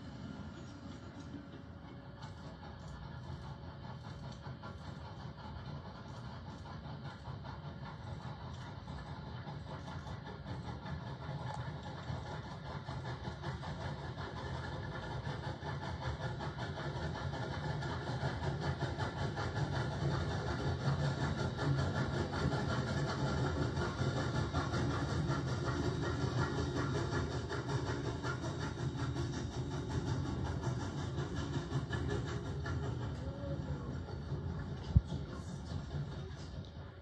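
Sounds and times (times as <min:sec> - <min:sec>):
passenger coaches rolling on rails: 0:00.0 - 0:37.0
steam locomotives running past: 0:00.0 - 0:37.0.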